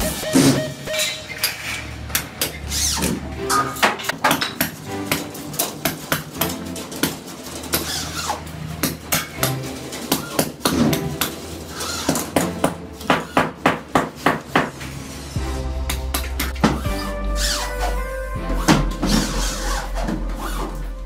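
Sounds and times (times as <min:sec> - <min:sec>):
background music: 0:00.0 - 0:02.0, 0:03.0 - 0:21.0.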